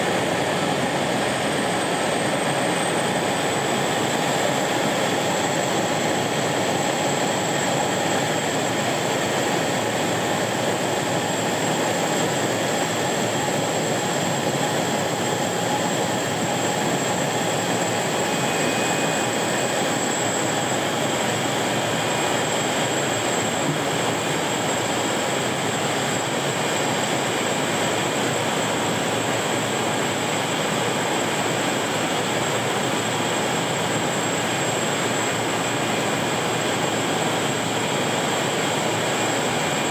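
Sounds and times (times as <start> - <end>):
plane engine and propeller: 0.0 - 39.9.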